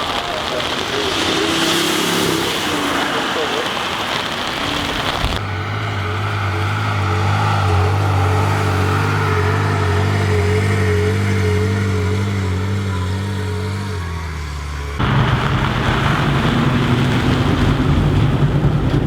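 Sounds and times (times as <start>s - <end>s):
car engine running steadily: 2.4s - 19.0s.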